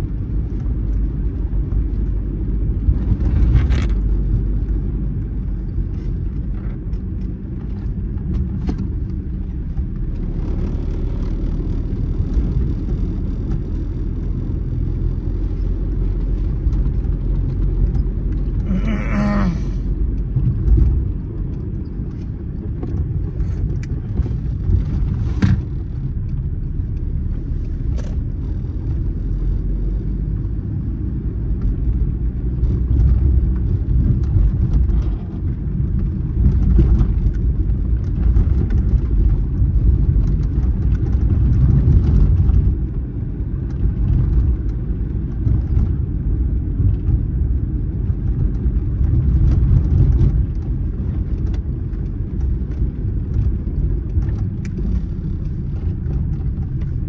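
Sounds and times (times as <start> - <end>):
moving vehicle rumble: 0.0 - 57.0.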